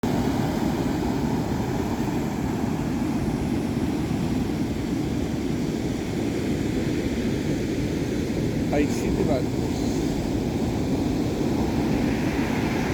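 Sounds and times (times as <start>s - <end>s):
ocean waves rushing: 0.0s - 12.9s.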